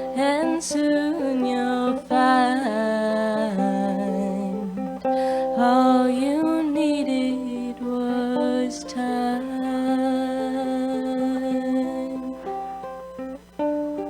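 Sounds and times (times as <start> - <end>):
woman singing: 0.0 - 12.8
acoustic guitar: 0.0 - 14.0.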